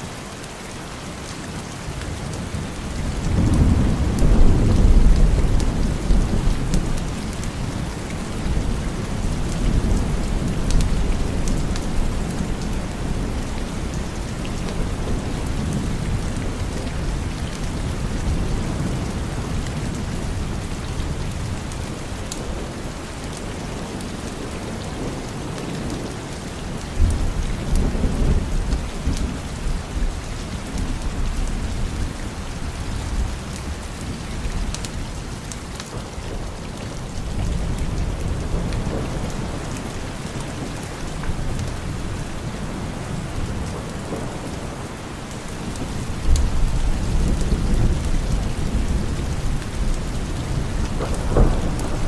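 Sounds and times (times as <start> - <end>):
heavy rain: 0.0 - 52.0
rolling thunder: 2.8 - 32.2, 36.0 - 52.0.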